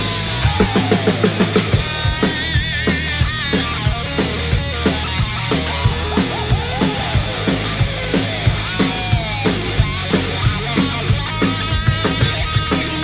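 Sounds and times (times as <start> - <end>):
bass guitar: 0.0 - 13.0
rock drum beat: 0.0 - 13.0
lead guitar bending notes: 1.6 - 13.0.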